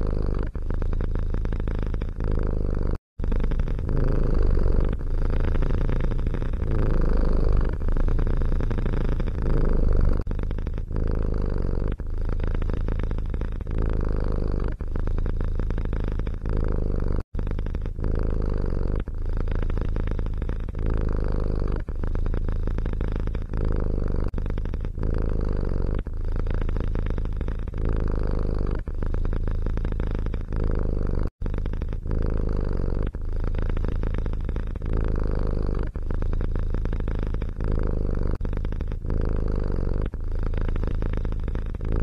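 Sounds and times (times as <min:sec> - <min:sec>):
cat purring: 0:00.0 - 0:42.0.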